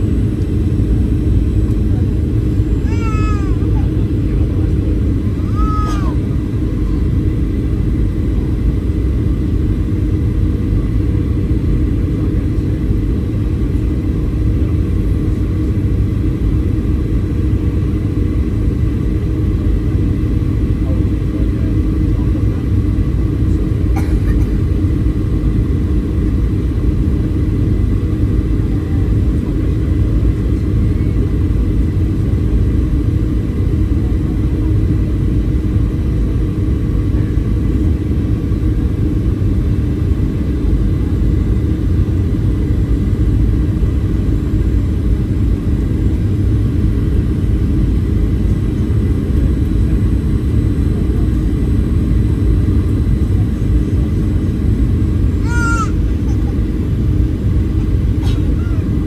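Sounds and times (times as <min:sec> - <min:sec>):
jet airliner rumbling: 0:00.0 - 0:59.0.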